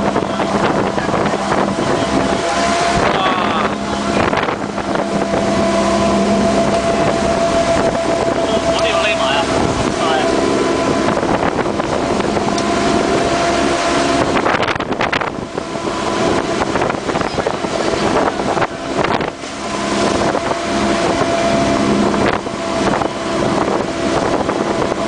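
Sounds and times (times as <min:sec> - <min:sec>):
motorboat engine running: 0:00.0 - 0:25.0
wind rushing over microphone: 0:00.0 - 0:25.0.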